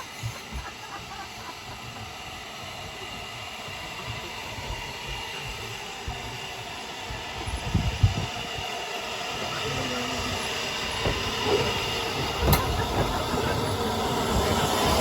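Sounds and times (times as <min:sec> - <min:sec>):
train hiss and rumble: 0:00.0 - 0:15.0.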